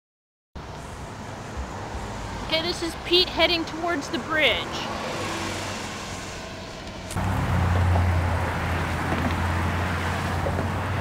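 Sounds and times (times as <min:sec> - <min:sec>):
low road rumble: 0:00.6 - 0:11.0.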